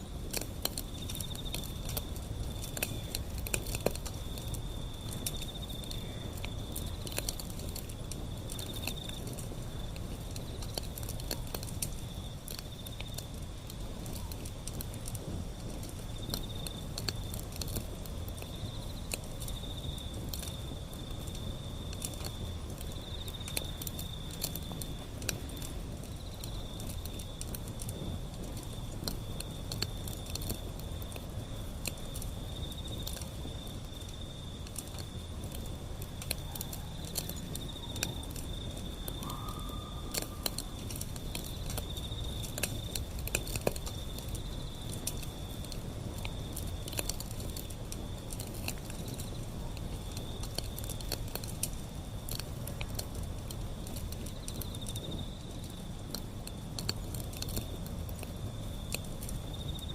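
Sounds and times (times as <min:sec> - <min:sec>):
low steady rumble: 0:00.0 - 0:59.9
wood fire crackling and popping: 0:00.0 - 0:59.9.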